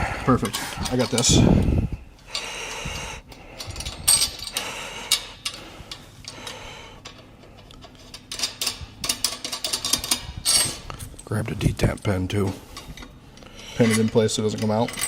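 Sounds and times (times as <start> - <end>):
steel parts clinking and knocking: 0.4 - 1.4, 3.3 - 13.2, 13.8 - 15.0.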